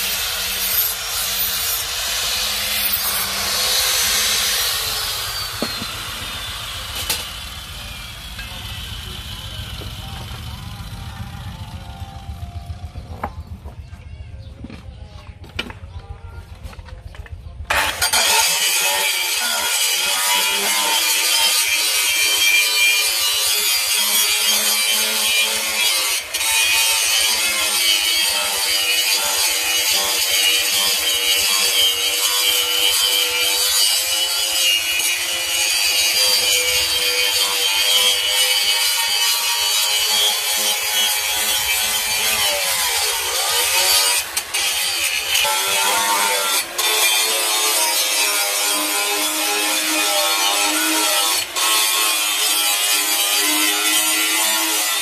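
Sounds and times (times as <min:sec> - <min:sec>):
angle grinder grinding: 0:00.0 - 0:13.2, 0:17.7 - 0:55.0.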